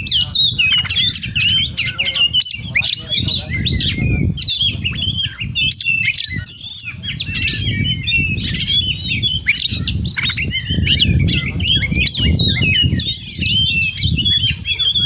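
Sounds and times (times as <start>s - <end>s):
magpie-robin singing: 0.0s - 15.0s.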